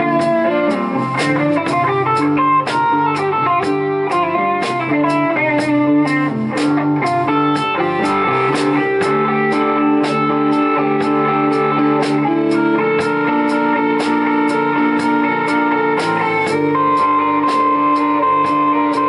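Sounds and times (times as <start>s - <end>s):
electric bass: 0.0s - 19.0s
electric guitars: 0.0s - 19.0s.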